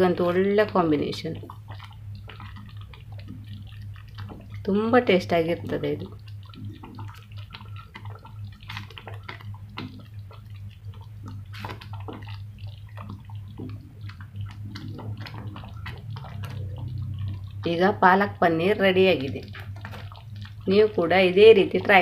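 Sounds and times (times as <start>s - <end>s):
steady low hum: 0.0s - 22.0s
thick gravy bubbling and popping: 0.0s - 22.0s.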